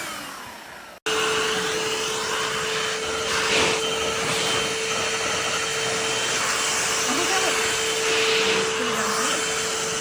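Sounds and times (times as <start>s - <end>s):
hand vacuum running: 0.0s - 10.0s.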